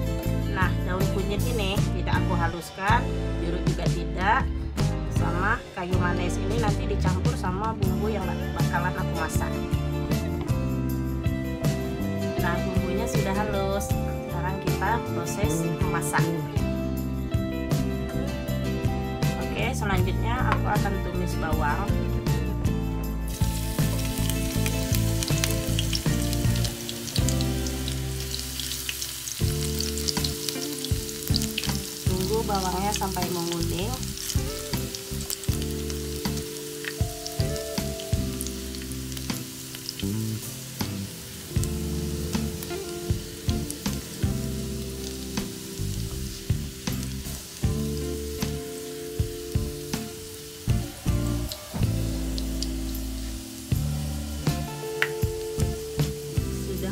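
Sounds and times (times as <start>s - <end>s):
shallots sizzling in hot oil: 0.0s - 3.0s, 10.4s - 56.9s
background music: 0.0s - 56.9s.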